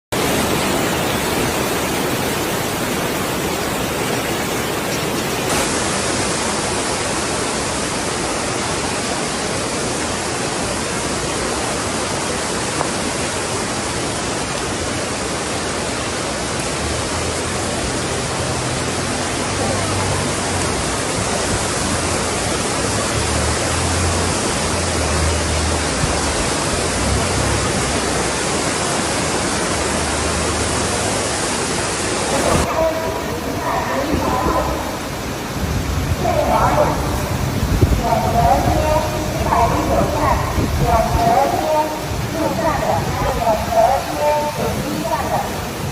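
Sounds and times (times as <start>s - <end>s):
flood water rushing: 0.1s - 45.9s.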